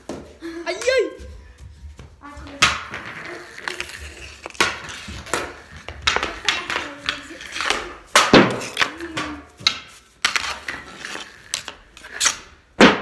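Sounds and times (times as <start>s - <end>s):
hockey sticks hitting puck on concrete: 0.0s - 1.2s, 1.9s - 13.0s.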